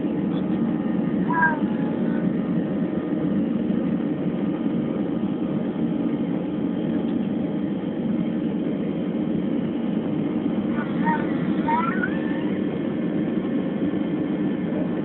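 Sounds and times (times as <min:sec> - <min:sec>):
faint constant whine: 0:00.0 - 0:15.0
jet engine drone in cabin: 0:00.0 - 0:15.0.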